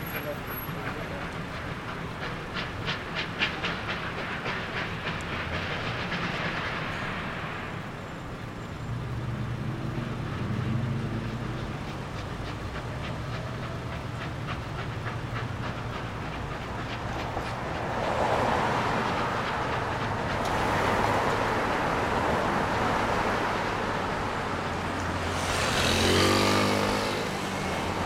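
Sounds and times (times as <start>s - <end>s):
low train rumble: 0.0s - 28.0s
steam hiss: 0.0s - 28.0s
steam locomotive beats: 0.0s - 28.0s.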